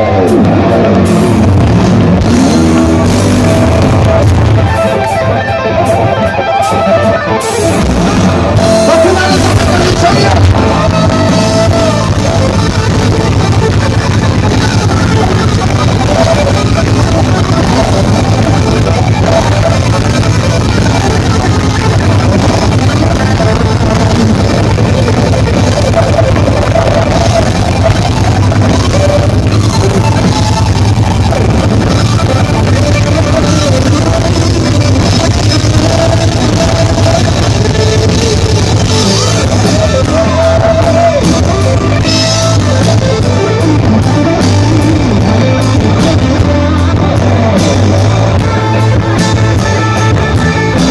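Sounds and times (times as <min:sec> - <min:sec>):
drum kit: 0:00.0 - 0:50.9
electric guitars: 0:00.0 - 0:50.9
heavy bass: 0:00.0 - 0:50.9.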